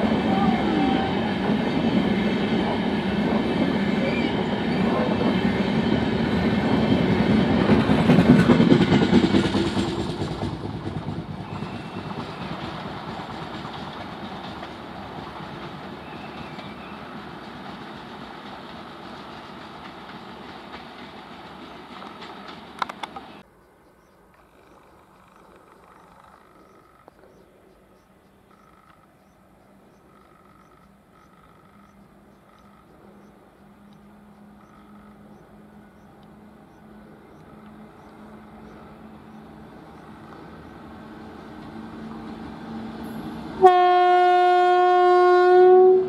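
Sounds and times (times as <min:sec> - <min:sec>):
train wheels rumbling on rails: 0:00.0 - 0:23.5, 0:24.6 - 0:46.0.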